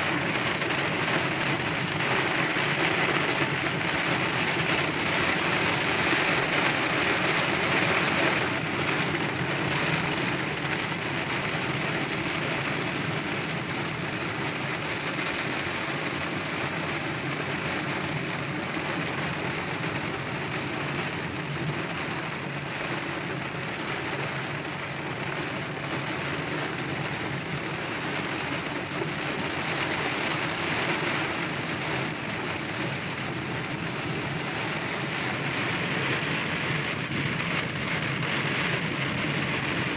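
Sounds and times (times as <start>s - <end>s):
heavy rain drumming on a car: 0.0s - 39.9s
road and engine noise: 0.0s - 39.9s.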